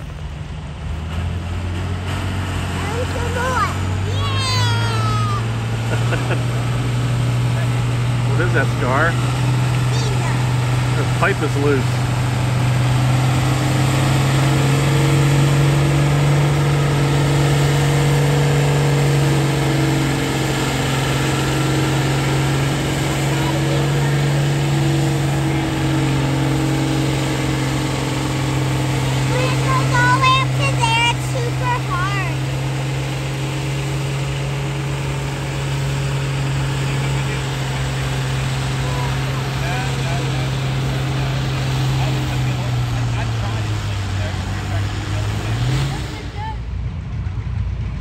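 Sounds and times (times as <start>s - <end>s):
tractor engine under heavy load: 0.0s - 48.0s.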